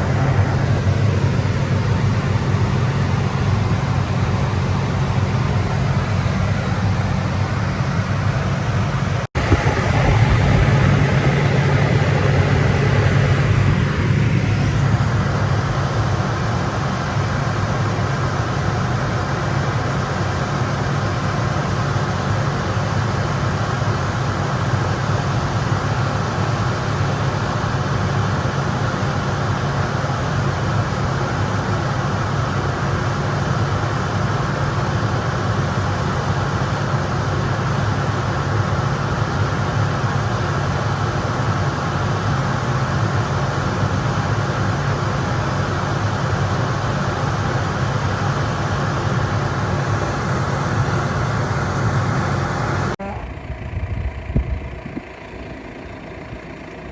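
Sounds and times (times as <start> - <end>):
tractor engine droning: 0.0 - 56.9.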